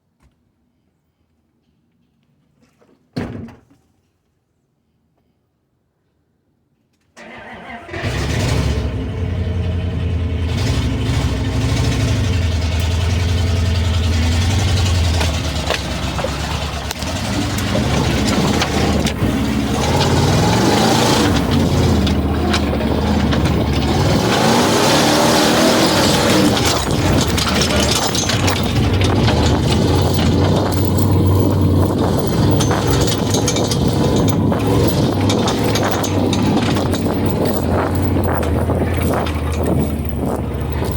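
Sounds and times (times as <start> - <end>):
truck engine revving under load: 7.2 - 40.9.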